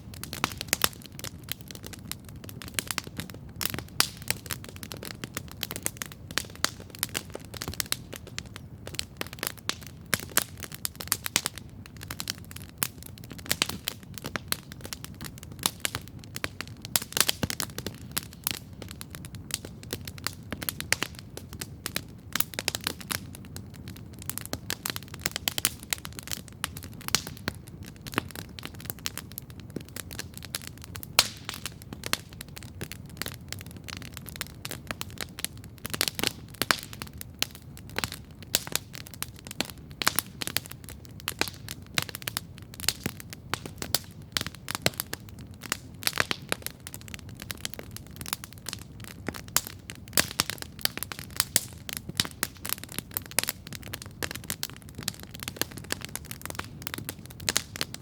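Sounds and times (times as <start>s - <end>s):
campfire crackling: 0.0s - 58.0s
low rumble of flames: 0.0s - 58.0s.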